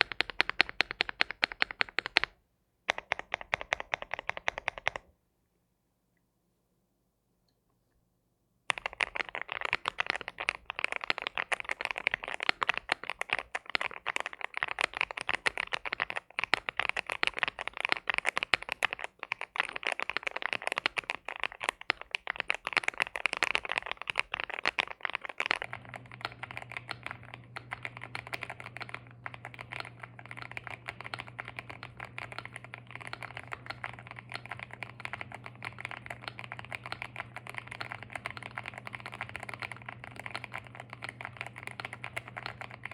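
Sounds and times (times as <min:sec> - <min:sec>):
softer typing: 0:00.0 - 0:05.1, 0:08.7 - 0:42.9
typing on mechanical keyboard: 0:00.0 - 0:05.1, 0:08.7 - 0:42.9
low steady hum: 0:02.0 - 0:42.9.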